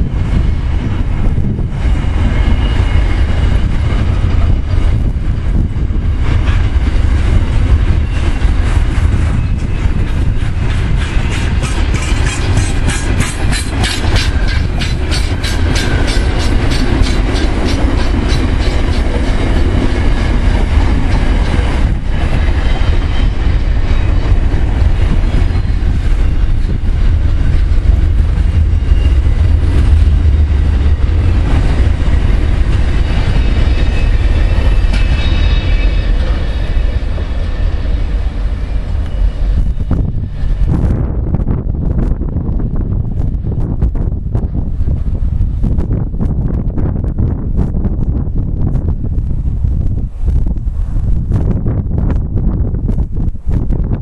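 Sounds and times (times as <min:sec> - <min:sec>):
wheels clickety-clack over rail joints: 0:00.0 - 0:49.4
freight train rumbling past: 0:00.0 - 0:54.0.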